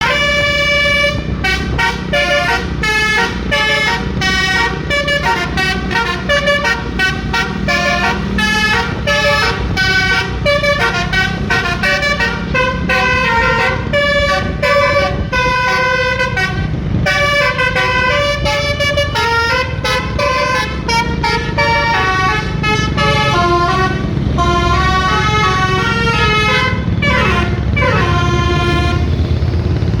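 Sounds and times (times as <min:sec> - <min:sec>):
multi-tone air horn melody: 0:00.0 - 0:29.4
low rumble: 0:00.0 - 0:30.0.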